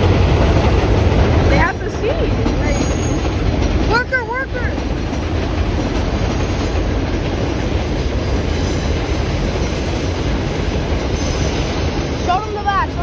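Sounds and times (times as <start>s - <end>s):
subway train rumbling and rattling: 0.0s - 13.0s.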